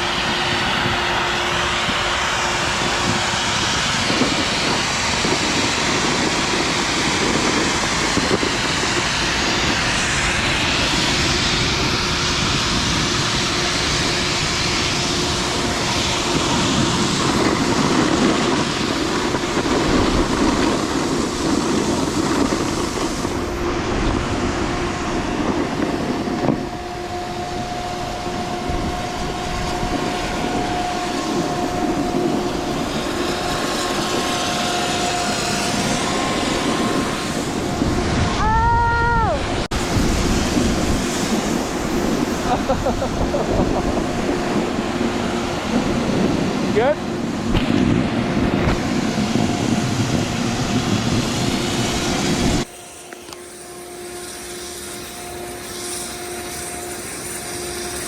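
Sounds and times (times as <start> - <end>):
snowboard scraping over snow: 0.0 - 58.0
wind on microphone: 0.0 - 58.0.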